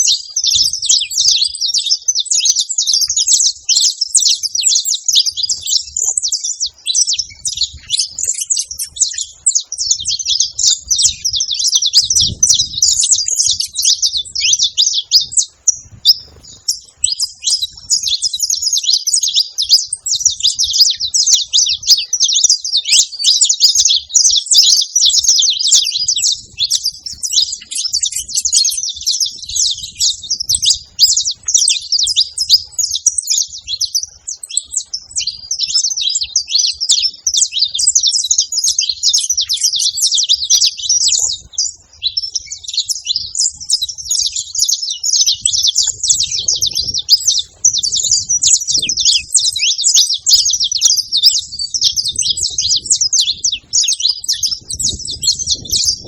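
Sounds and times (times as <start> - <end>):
finches chirping and singing: 0.0 - 56.0.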